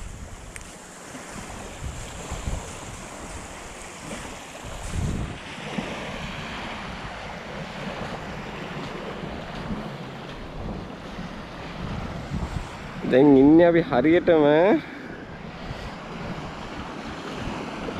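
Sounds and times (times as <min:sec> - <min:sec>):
open water washing: 0:00.0 - 0:17.9
wind buffeting microphone: 0:00.0 - 0:17.9.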